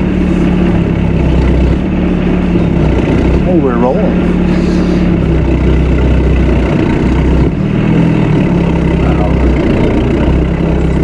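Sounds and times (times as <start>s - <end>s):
diesel car engine running: 0.0s - 11.0s.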